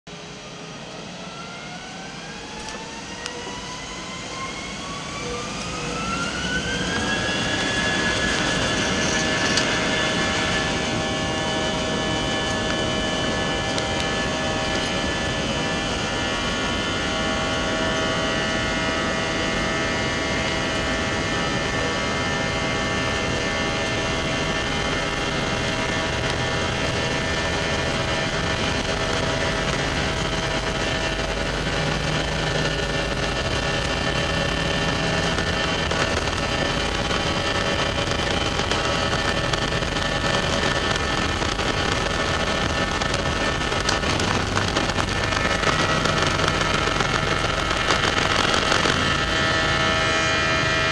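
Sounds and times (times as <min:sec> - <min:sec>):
jet engines whining: 0:00.1 - 0:50.9.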